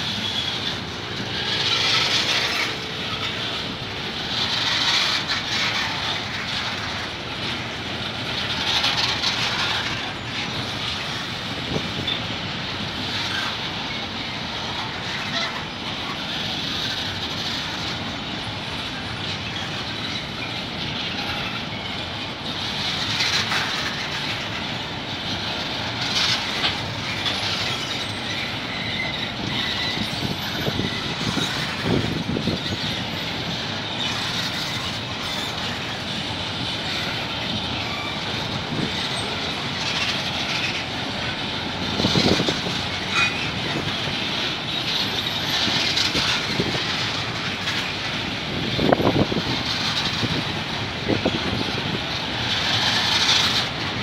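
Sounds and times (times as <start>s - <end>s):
steel wheels rolling on rail: 0.0s - 54.0s
train wagon clacks: 0.0s - 54.0s.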